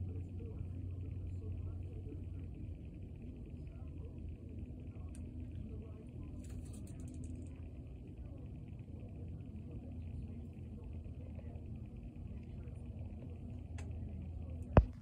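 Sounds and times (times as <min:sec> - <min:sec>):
faint steady hum: 0:00.0 - 0:15.0
low background rumble: 0:00.0 - 0:15.0.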